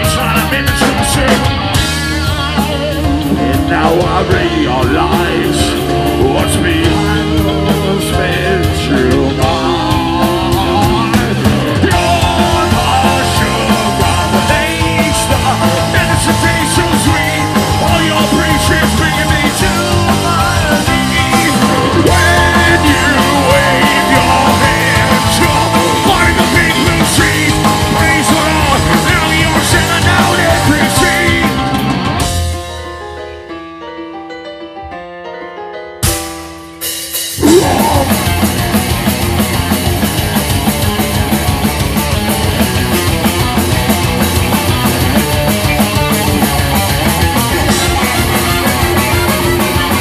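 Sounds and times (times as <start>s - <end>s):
live heavy rock band playing: 0.0s - 50.0s.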